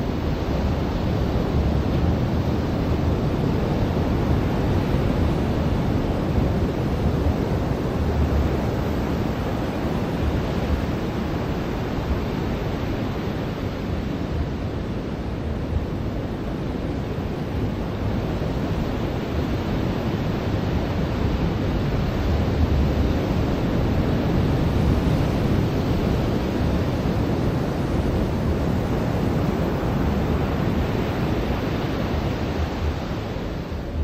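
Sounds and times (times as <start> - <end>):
ocean surf on a beach: 0.0 - 34.0.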